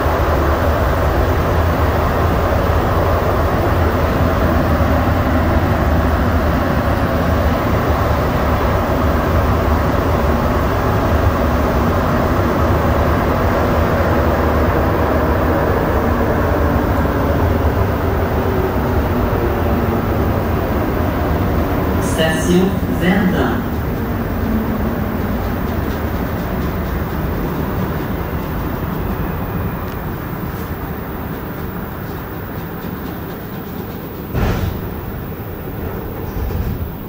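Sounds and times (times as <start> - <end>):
metro train rumbling in tunnel: 0.0 - 37.0.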